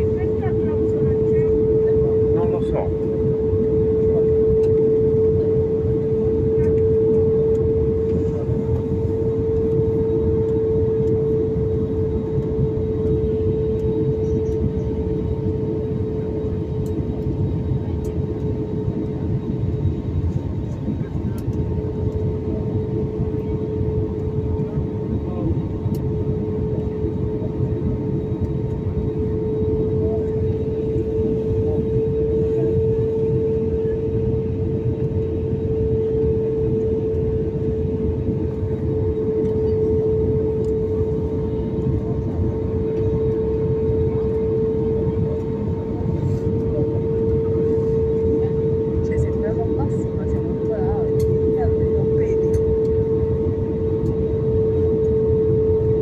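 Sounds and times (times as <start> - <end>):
airliner cabin engine and airflow noise: 0.0 - 56.0
constant drone: 0.0 - 56.0.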